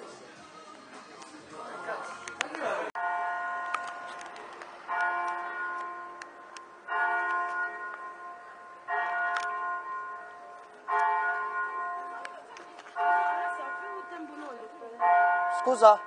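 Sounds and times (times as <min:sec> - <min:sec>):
church bell tolling: 0:03.0 - 0:16.0.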